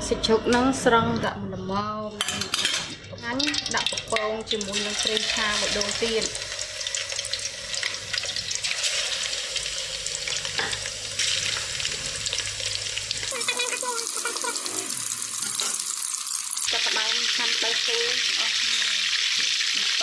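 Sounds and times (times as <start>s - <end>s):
pork frying in oil: 2.9s - 20.0s.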